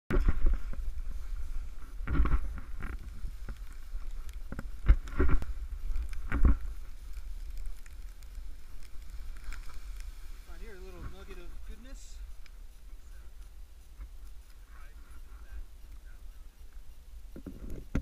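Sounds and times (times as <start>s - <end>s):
wind rumble on microphone: 0.1s - 18.0s
snowboard swishing through snow: 0.2s - 17.9s.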